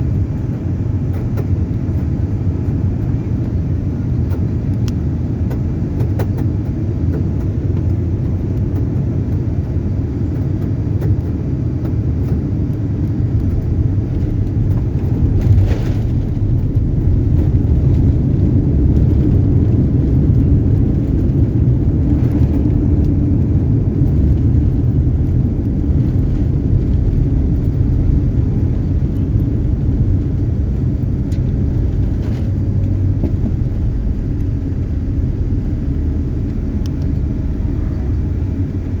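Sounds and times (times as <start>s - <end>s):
airliner engine rumble: 0.0s - 39.0s.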